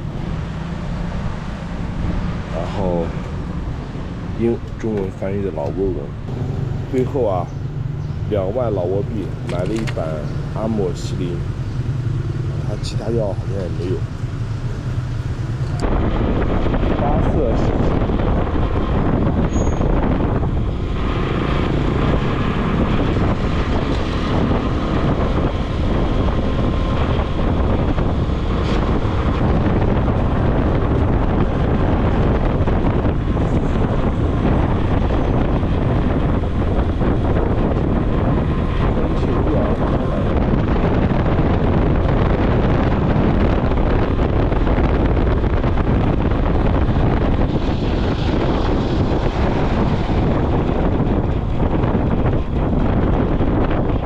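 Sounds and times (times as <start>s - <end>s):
motorcycle running: 0.0s - 54.0s
wind rush on microphone: 0.0s - 54.0s.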